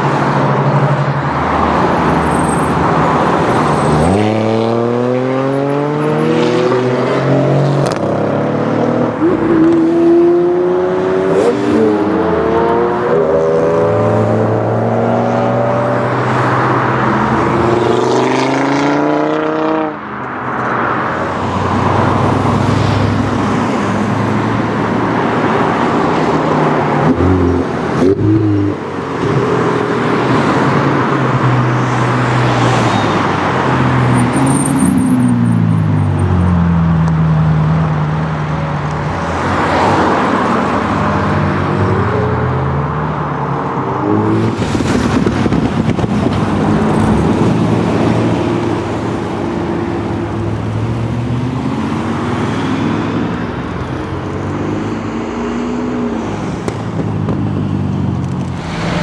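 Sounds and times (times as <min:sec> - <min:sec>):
cars accelerating past: 0:00.0 - 0:38.0, 0:38.9 - 0:59.0.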